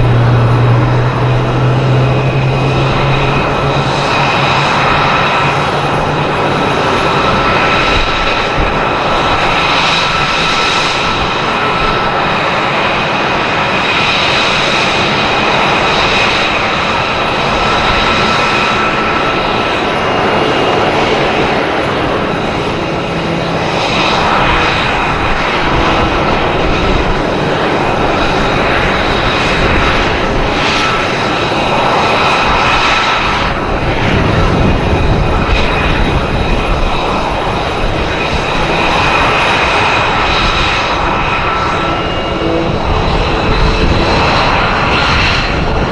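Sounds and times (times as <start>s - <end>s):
jet engines roaring with high whine: 0.0s - 45.9s.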